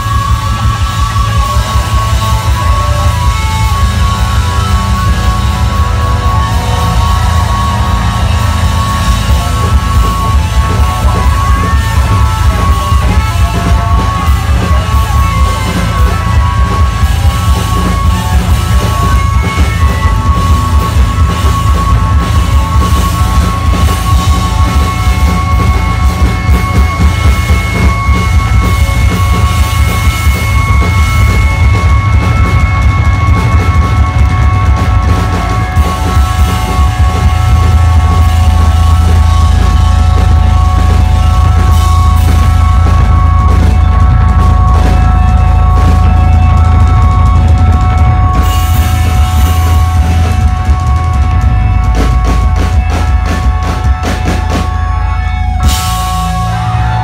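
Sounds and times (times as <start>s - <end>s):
guitar feedback tones: 0.0s - 57.0s
live rock band playing: 0.0s - 57.0s.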